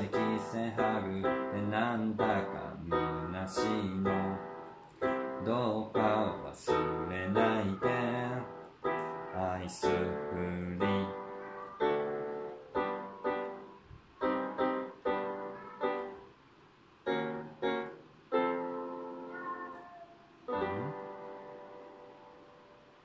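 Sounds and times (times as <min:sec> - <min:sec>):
electronic keyboard piano chords: 0:00.0 - 0:16.4, 0:17.0 - 0:19.5, 0:20.4 - 0:23.0.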